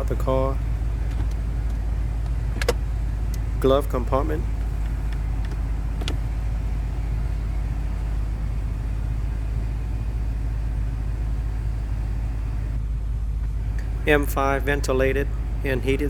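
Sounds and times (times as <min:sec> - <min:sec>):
car cabin low rumble: 0:00.0 - 0:16.0.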